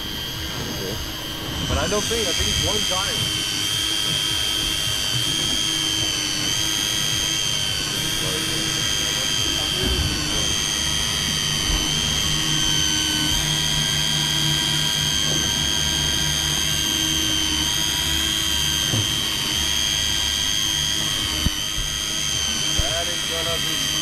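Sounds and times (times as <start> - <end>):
fishing reel motor whining: 0.0 - 24.0
low steady hum: 0.0 - 24.0.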